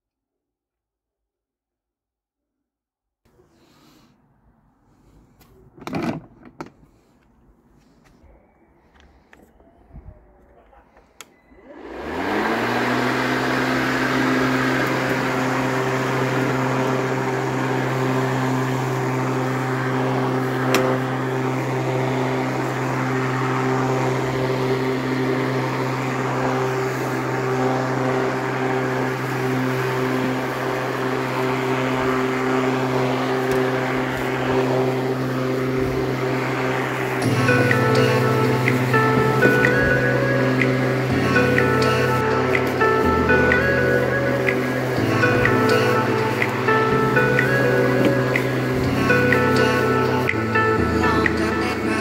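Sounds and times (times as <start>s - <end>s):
electric lawnmower humming: 8.7s - 52.0s.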